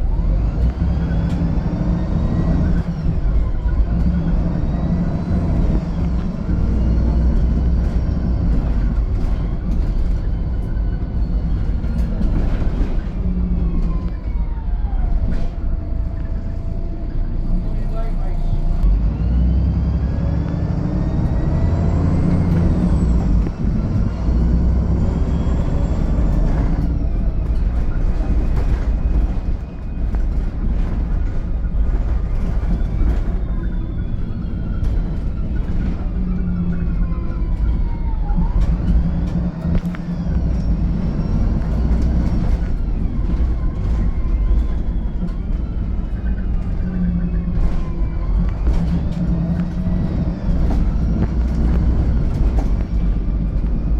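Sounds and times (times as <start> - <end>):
bus diesel engine whining: 0.0 - 53.9.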